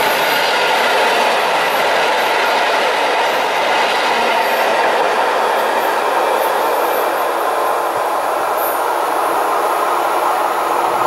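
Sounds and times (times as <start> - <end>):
train wheels rushing on track: 0.0 - 11.0.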